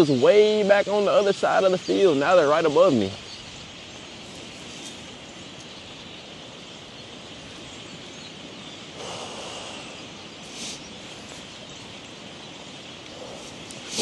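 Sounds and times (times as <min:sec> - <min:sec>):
flock of birds calling: 0:00.0 - 0:14.0
outdoor hiss: 0:00.0 - 0:14.0.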